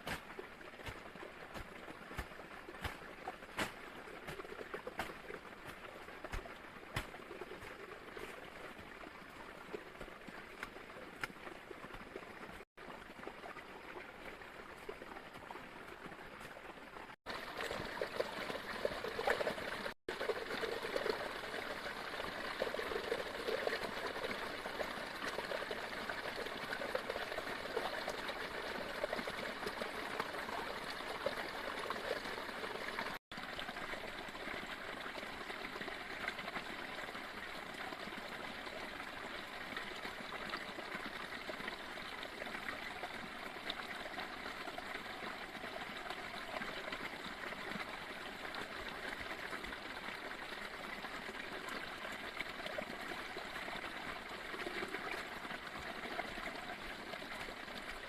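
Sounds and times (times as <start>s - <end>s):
water trickling: 0.4s - 58.0s.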